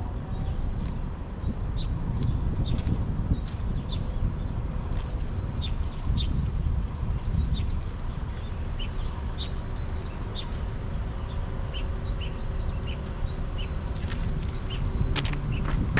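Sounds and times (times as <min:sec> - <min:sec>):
steady low rumble: 0:00.0 - 0:15.9
small birds chirping: 0:00.1 - 0:15.9.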